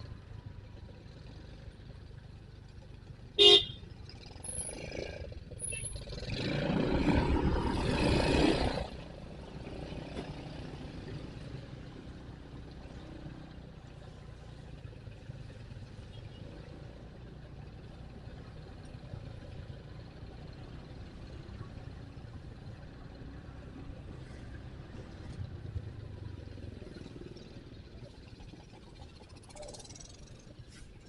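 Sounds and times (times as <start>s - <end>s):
motorcycle engine at low revs: 0.0s - 31.0s.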